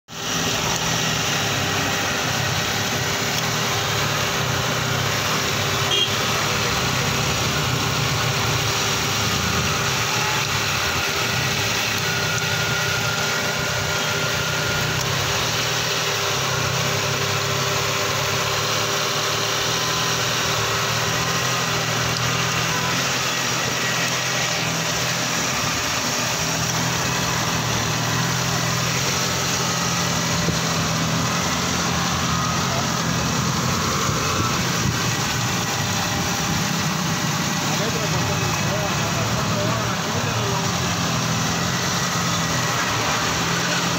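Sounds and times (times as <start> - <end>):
car engine idling: 0.1 - 43.9.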